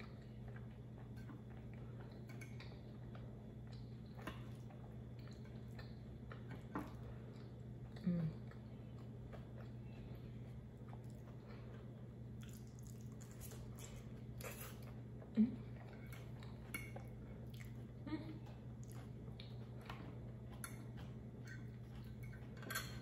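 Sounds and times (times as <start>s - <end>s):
person chewing: 0.0s - 22.6s.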